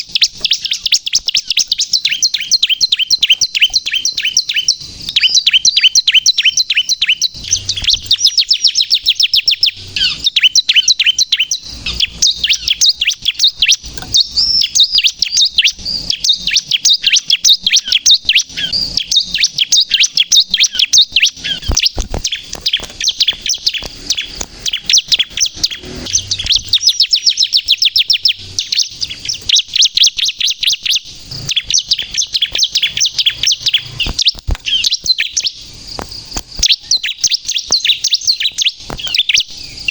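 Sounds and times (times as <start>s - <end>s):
bird singing high sharp chirps: 0.0s - 39.9s.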